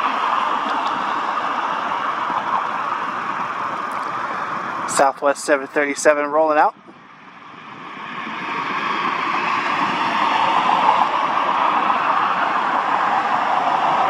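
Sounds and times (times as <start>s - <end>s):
jet engine rushing noise: 0.0s - 14.0s.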